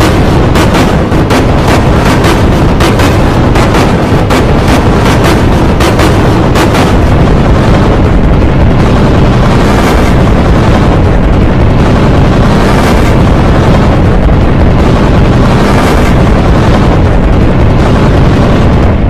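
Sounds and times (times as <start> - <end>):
heavily distorted noisy remix: 0.0 - 19.0.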